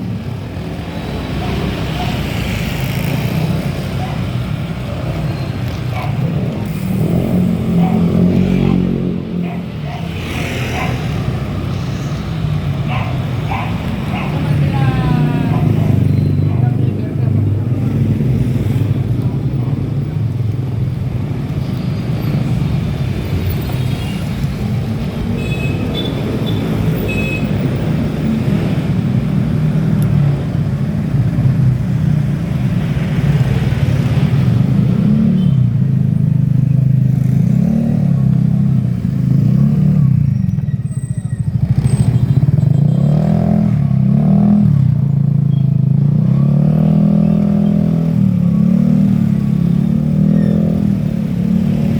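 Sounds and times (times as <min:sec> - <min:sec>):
motorcycle engine revving: 0:00.9 - 0:51.9.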